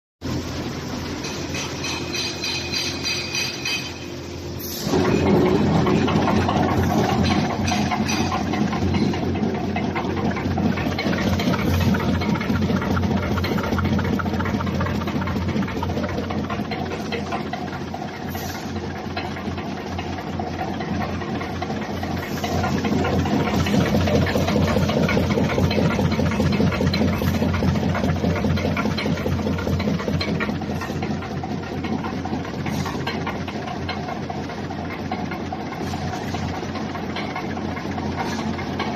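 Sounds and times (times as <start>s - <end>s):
machine humming and clattering: 0.2s - 38.9s.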